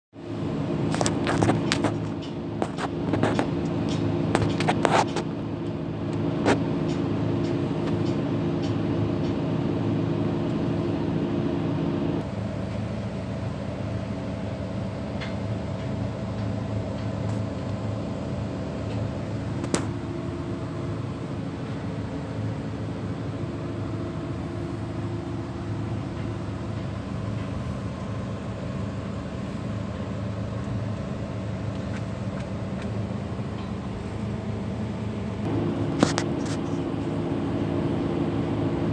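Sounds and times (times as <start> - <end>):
diesel engine running: 0.1 - 38.9.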